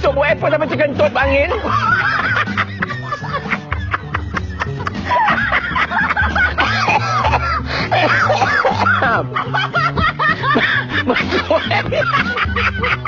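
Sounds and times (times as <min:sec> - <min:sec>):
background music with bass line: 0:00.0 - 0:13.0
people laughing loudly: 0:01.4 - 0:13.0.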